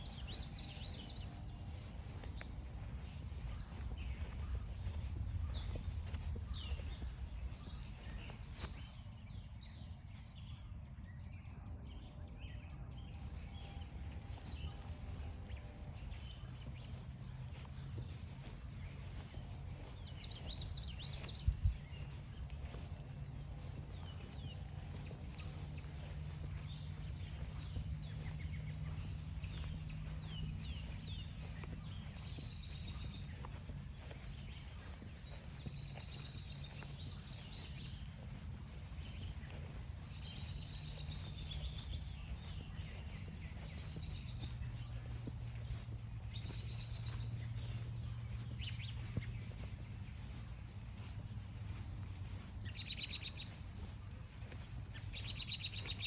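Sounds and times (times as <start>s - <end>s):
footsteps crunching on path: 0.0s - 10.5s, 12.9s - 56.0s
songbirds chirping and trilling: 0.0s - 56.0s.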